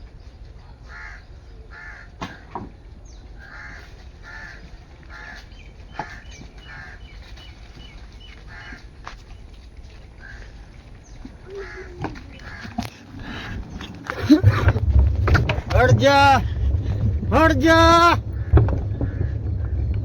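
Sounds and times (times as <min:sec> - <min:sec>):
harsh bird calls: 0:00.0 - 0:09.6, 0:10.2 - 0:20.0.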